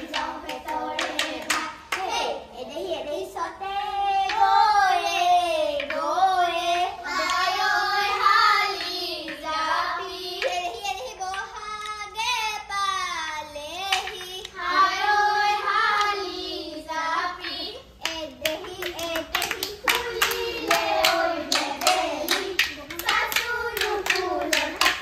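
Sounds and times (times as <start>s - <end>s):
child singing: 0.0s - 25.0s.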